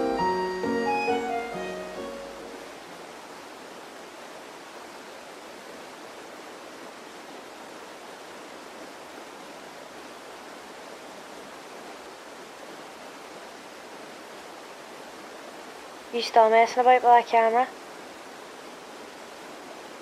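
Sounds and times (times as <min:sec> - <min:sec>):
outdoor ambience hiss: 0:00.0 - 0:20.0.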